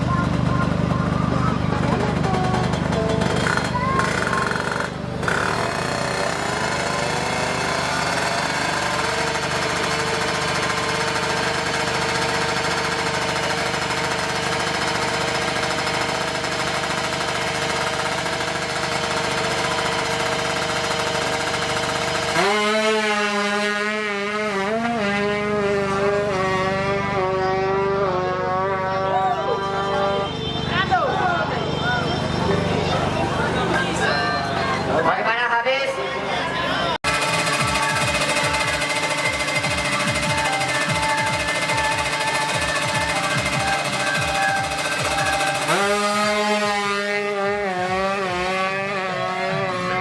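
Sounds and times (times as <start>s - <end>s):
two-stroke motorcycle engine revving: 0.0s - 35.2s, 37.0s - 50.0s.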